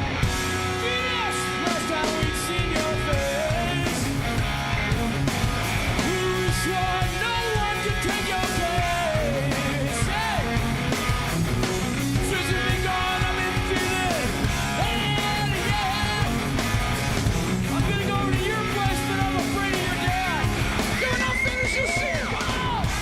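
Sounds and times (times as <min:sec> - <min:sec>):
bass guitar: 0:00.0 - 0:23.0
drums: 0:00.0 - 0:23.0
electric guitar: 0:00.0 - 0:23.0
person yelling lead vocal: 0:00.7 - 0:04.4, 0:06.0 - 0:10.9, 0:12.0 - 0:16.6, 0:17.6 - 0:23.0.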